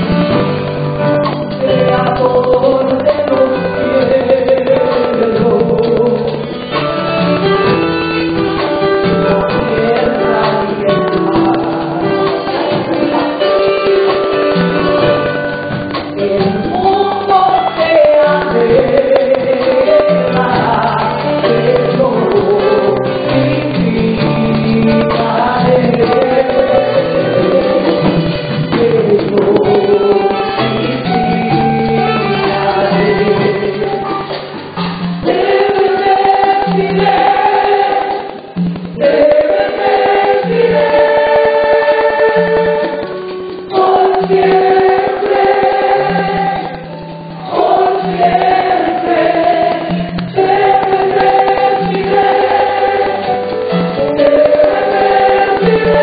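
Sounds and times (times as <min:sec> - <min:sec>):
band with keyboard and drums: 0:00.0 - 0:56.0
people singing praise song: 0:01.6 - 0:15.2, 0:16.2 - 0:34.5, 0:35.2 - 0:56.0.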